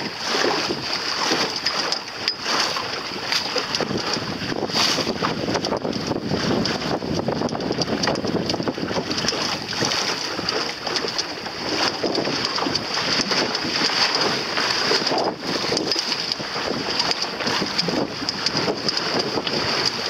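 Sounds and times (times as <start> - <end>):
water rushing along a hull: 0.0 - 20.0
wind buffeting the microphone: 0.0 - 20.0.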